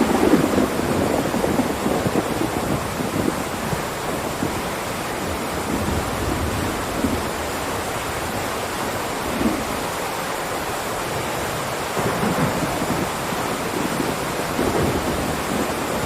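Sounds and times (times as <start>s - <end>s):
low thunder rumbling: 0.0s - 16.0s
steady rain hiss: 0.0s - 16.0s.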